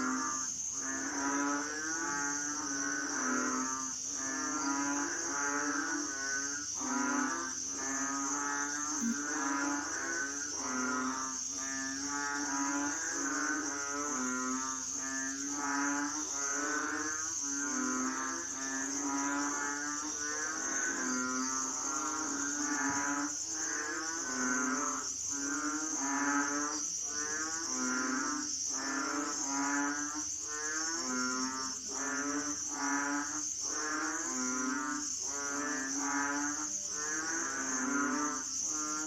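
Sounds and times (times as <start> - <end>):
chorus of frogs calling: 0.0 - 39.0
high-pitched insect buzz: 0.0 - 39.0.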